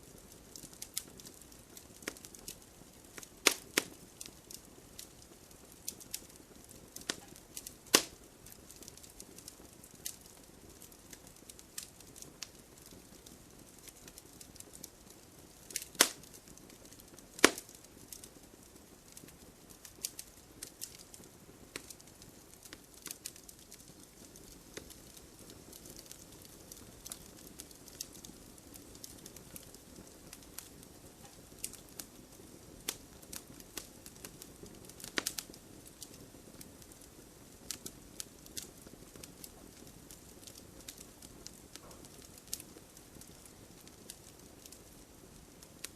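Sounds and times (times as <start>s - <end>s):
wood fire crackling: 0.0s - 45.9s
loud fire pops: 0.1s - 14.9s, 15.6s - 19.2s, 19.8s - 45.9s.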